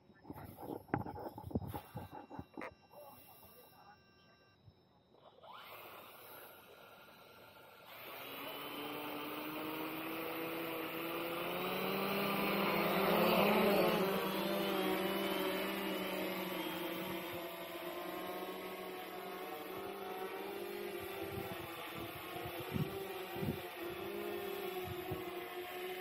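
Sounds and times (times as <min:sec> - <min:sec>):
model plane propellers humming: 0:05.1 - 0:26.0.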